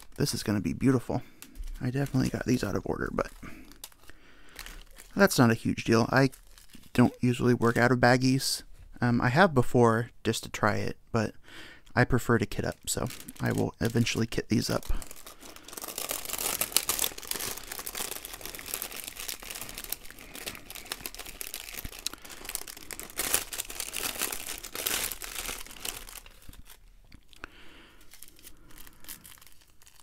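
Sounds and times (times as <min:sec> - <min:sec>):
plastic bags crinkling: 0:00.0 - 0:08.0, 0:12.3 - 0:30.0.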